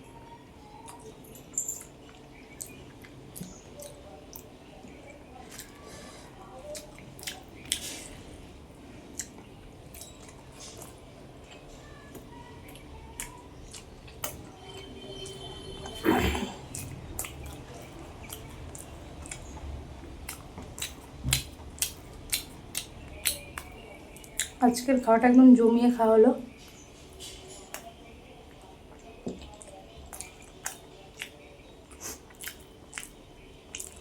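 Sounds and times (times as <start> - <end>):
wet chewing: 0.8 - 8.4, 9.0 - 24.6, 26.6 - 34.0.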